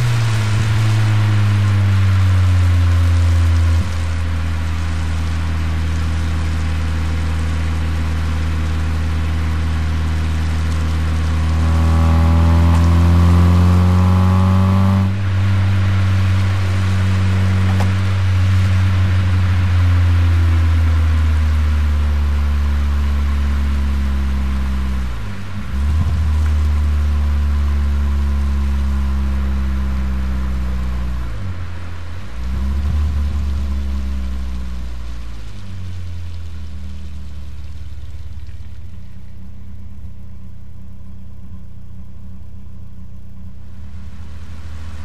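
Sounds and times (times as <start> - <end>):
car engine exhaust note: 0.0 - 45.0.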